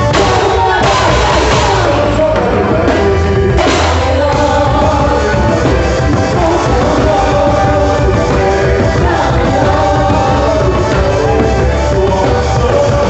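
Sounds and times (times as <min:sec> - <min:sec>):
loud music with singing: 0:00.0 - 0:13.0.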